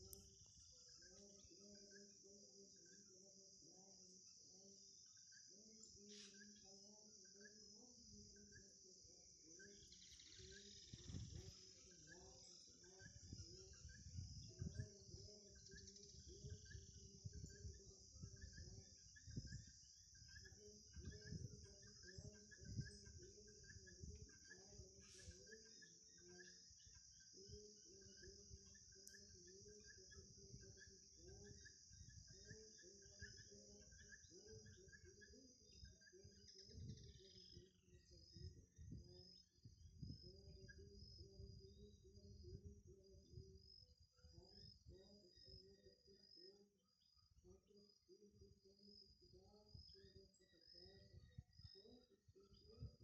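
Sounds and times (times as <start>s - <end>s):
crickets chirping: 0.0s - 53.0s
short insect calls: 0.0s - 53.0s.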